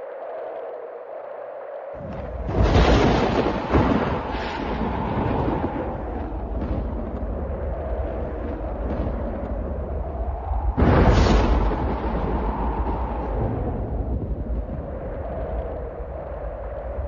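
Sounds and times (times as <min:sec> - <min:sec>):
thunder rumbling: 0:02.0 - 0:17.0.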